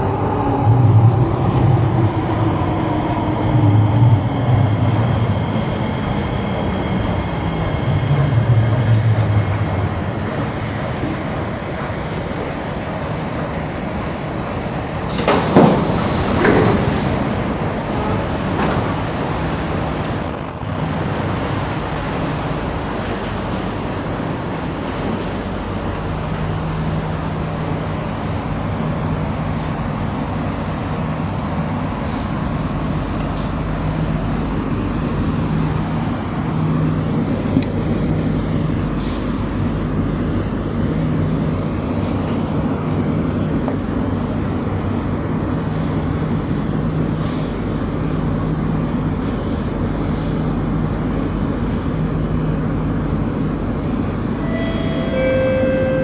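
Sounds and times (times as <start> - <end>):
train humming at platform: 0.0 - 56.0.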